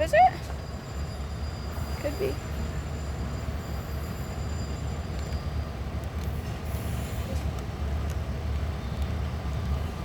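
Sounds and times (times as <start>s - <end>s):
diesel locomotive engines idling: 0.0s - 10.0s.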